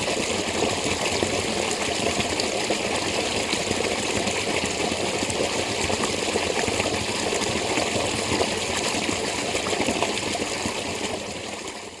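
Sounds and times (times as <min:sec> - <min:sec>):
spring water rushing and splashing: 0:00.0 - 0:11.6.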